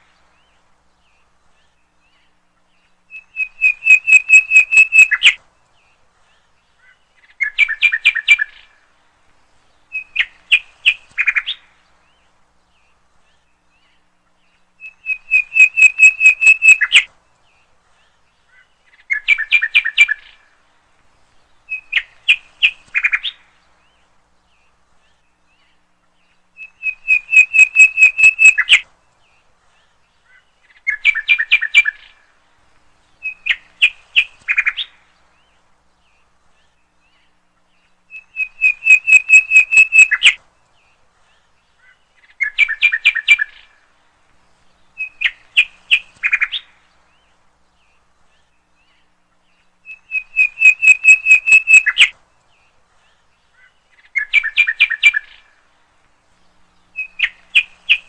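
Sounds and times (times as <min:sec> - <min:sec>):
bird chirping trills: 0:00.0 - 0:58.0.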